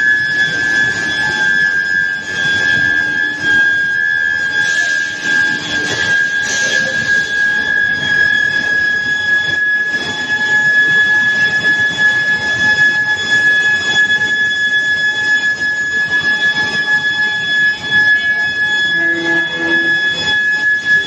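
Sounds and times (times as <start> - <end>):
high-pitched furnace coil whine: 0.0 - 21.0
production line noise: 0.0 - 21.0.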